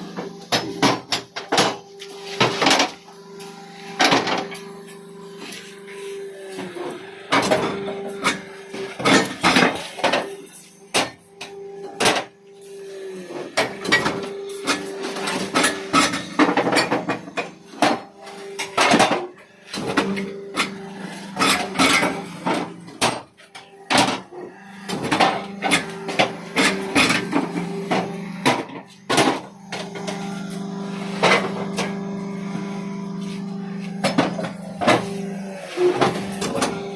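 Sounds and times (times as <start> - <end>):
steady machine hum: 0.0 - 36.9.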